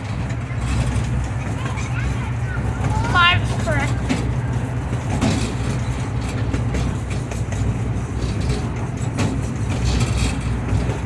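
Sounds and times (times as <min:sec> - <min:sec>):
miniature train rumbling on track: 0:00.0 - 0:11.0.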